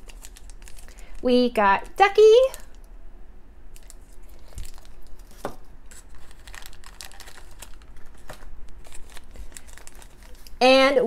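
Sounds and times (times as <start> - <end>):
plastic bags crinkling: 0.0 - 2.8, 3.7 - 10.6.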